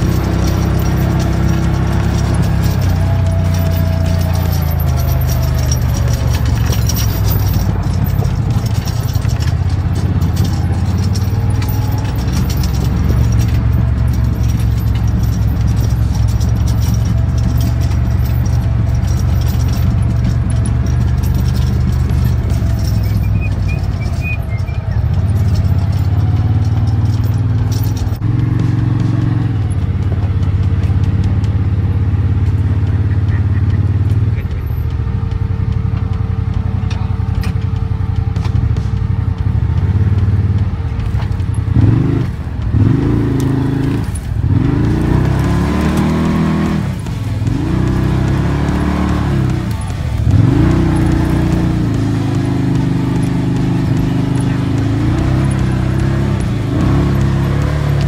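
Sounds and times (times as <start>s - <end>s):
atv engine running: 0.0s - 58.0s
light rattling clicks: 0.0s - 58.0s.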